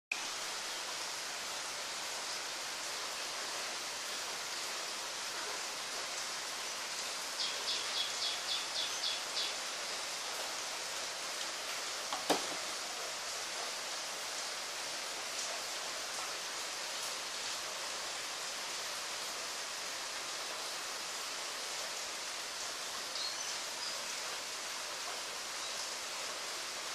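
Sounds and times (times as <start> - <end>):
steady hiss: 0.1 - 26.9.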